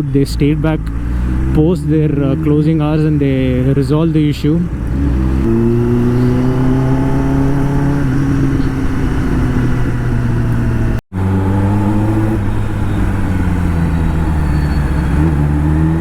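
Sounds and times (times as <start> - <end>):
motorcycle engine running: 1.0 - 16.0.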